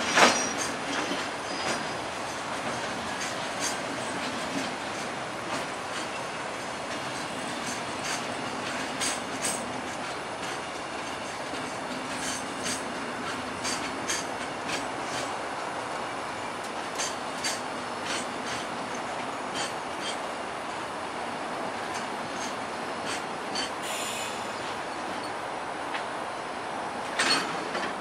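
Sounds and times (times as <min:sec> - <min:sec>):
wheels clicking over rail joint: 0:00.0 - 0:15.4, 0:16.6 - 0:20.3, 0:21.8 - 0:26.1, 0:27.0 - 0:28.0
freight train rumbling past: 0:00.0 - 0:28.0.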